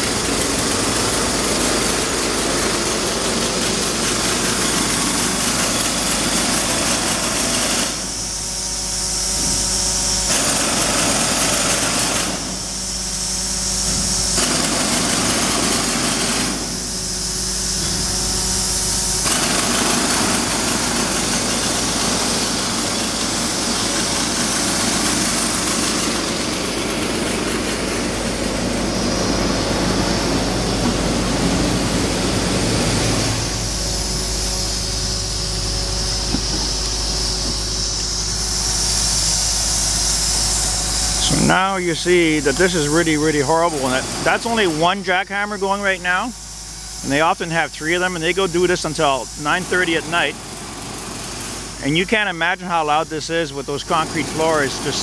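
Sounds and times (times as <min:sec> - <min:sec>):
jackhammer breaking concrete: 0:00.0 - 0:08.3, 0:09.3 - 0:18.1, 0:18.8 - 0:33.5, 0:38.8 - 0:45.0, 0:47.1 - 0:55.0.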